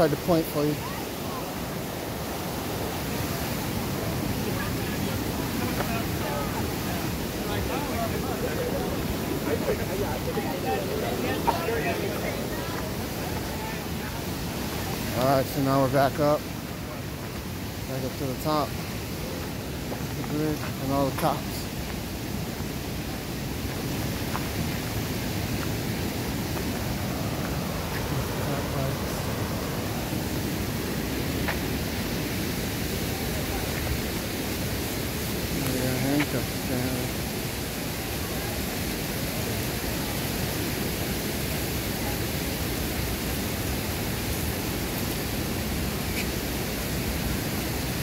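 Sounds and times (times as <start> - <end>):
fast-flowing creek rushing: 0.0 - 48.0.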